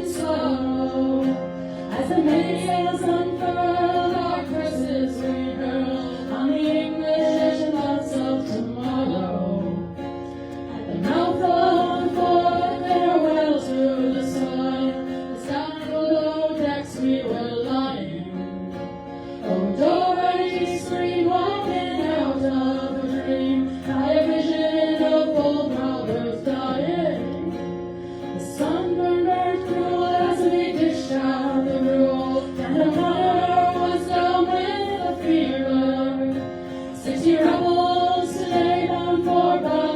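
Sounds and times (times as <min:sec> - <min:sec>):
plucked string instrument: 0:00.0 - 0:39.9
women singing together: 0:00.0 - 0:39.9.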